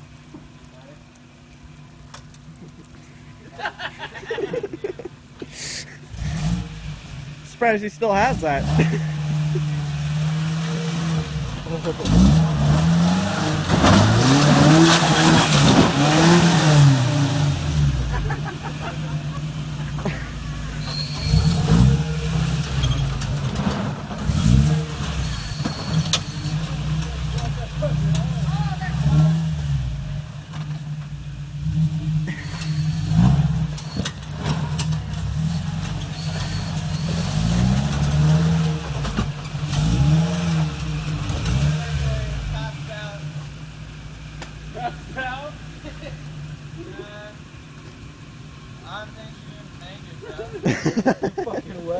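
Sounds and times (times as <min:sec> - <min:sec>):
truck engine revving: 0:03.5 - 0:51.9.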